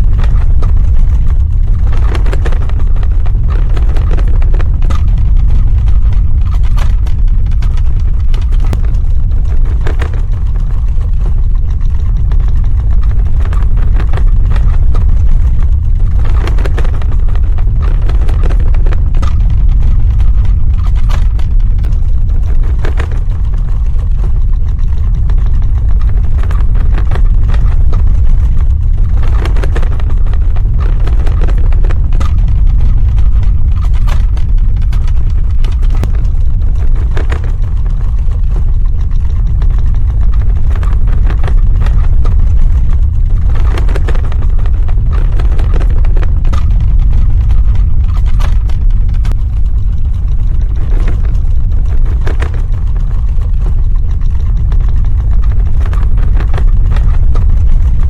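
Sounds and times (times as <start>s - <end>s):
crackling and rattling: 0.0s - 58.0s
deep earthquake rumble: 0.0s - 58.0s.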